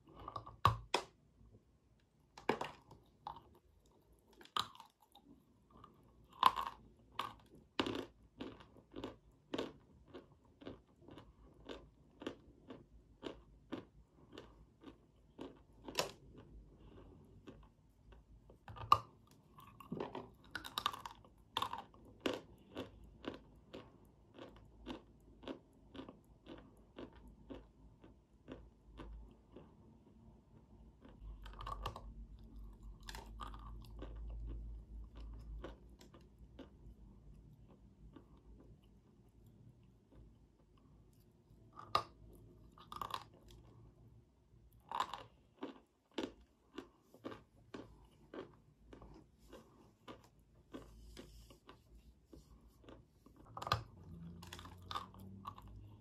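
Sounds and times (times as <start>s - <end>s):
crunchy biting and chewing: 4.2s - 17.8s, 18.7s - 29.8s, 31.0s - 38.6s, 41.7s - 43.9s, 44.8s - 56.0s.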